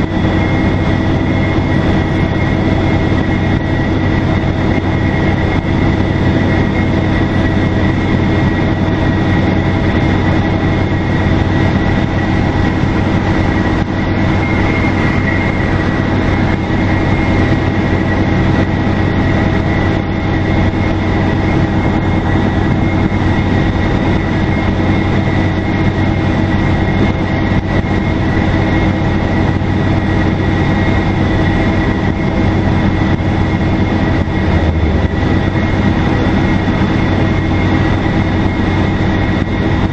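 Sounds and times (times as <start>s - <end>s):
diesel bus engine drone: 0.0s - 39.9s.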